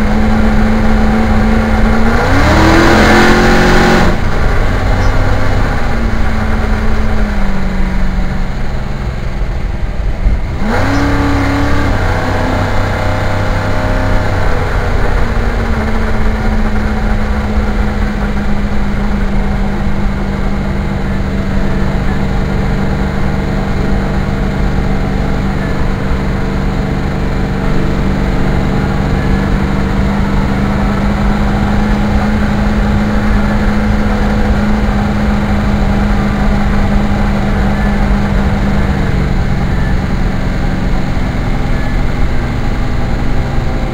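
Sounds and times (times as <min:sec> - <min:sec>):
car engine revving while driving: 0:00.0 - 0:43.9.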